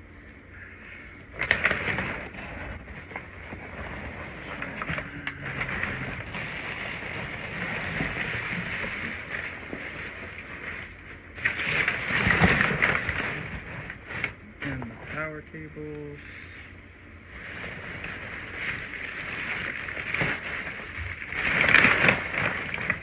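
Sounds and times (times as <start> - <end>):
packing paper rustling: 1.2 - 23.0.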